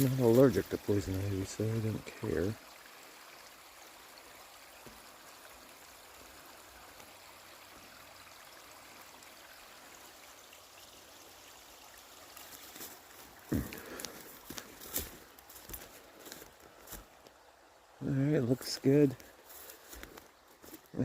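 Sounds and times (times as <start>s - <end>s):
water trickling through dam: 0.0s - 21.0s.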